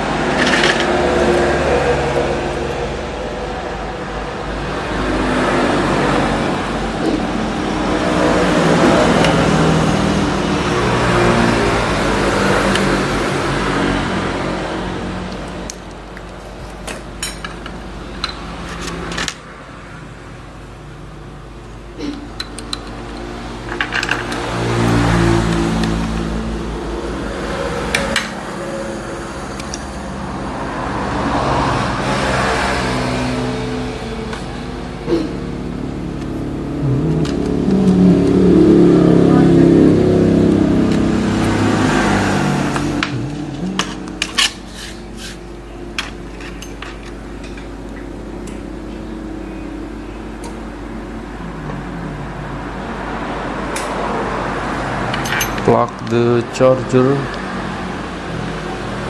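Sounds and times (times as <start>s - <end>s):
steady low hum: 0.0s - 55.1s
vehicle engine running: 0.0s - 59.0s.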